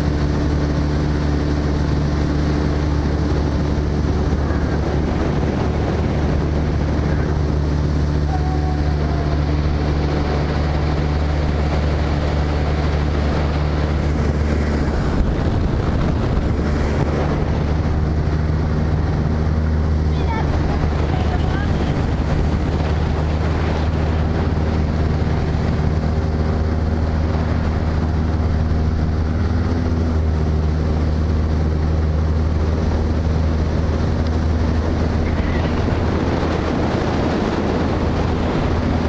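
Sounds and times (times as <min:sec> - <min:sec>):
motorboat engine humming: 0:00.0 - 0:39.0
water rushing past hull: 0:00.0 - 0:39.0
wind buffeting microphone: 0:00.0 - 0:39.0.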